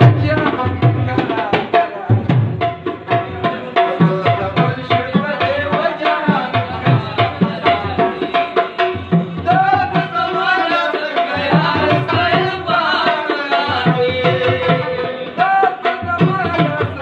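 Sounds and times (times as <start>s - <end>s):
man singing: 0.0s - 17.0s.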